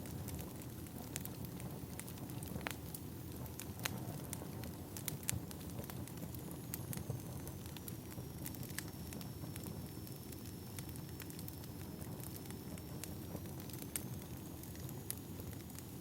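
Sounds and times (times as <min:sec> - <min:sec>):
fire crackling and popping: 0:00.0 - 0:16.0
low rumble of burning logs: 0:00.0 - 0:16.0.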